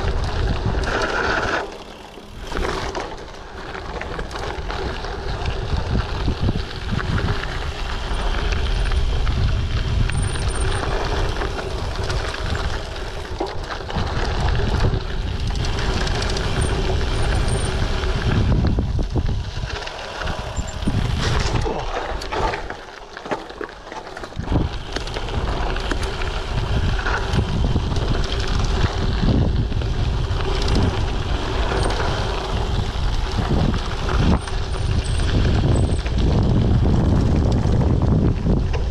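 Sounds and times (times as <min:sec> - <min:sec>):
wind buffeting microphone: 0:00.0 - 0:01.5, 0:02.3 - 0:22.8, 0:24.3 - 0:38.9
bike knocks and rattles: 0:00.0 - 0:38.9
bike tyres rumbling on dirt: 0:00.0 - 0:38.9.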